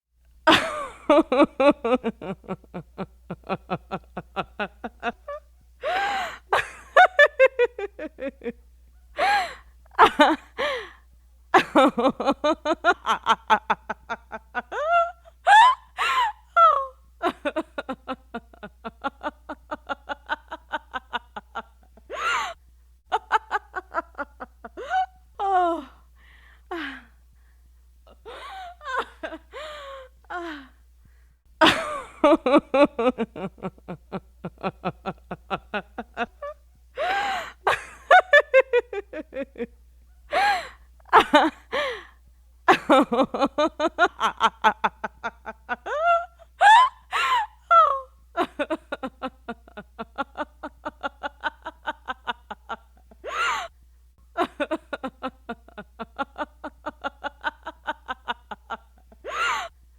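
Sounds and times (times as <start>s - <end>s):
woman laughing: 0.5s - 8.6s, 9.2s - 10.8s, 11.6s - 26.0s, 28.1s - 30.6s, 31.6s - 39.7s, 40.3s - 42.0s, 42.7s - 53.7s, 54.4s - 59.7s.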